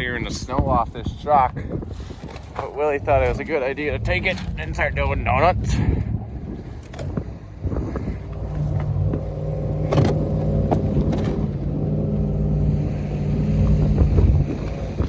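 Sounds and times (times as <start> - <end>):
truck engine running hard: 2.7 - 15.0.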